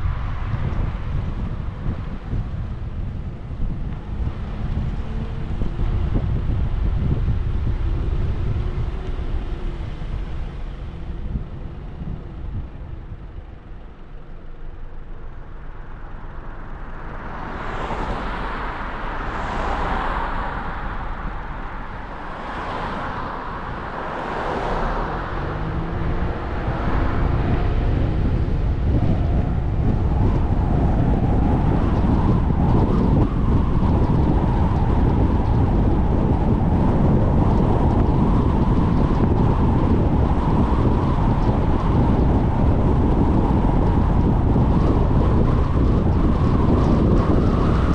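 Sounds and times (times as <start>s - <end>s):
car road and wind noise: 0.0s - 47.9s.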